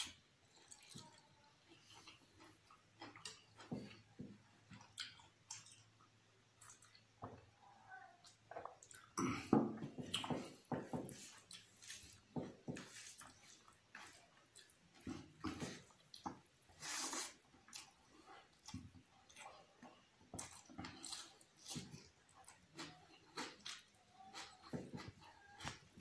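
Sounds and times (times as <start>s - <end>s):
wet chewing and lip smacks: 0.0s - 7.4s, 10.0s - 12.2s, 12.8s - 26.0s.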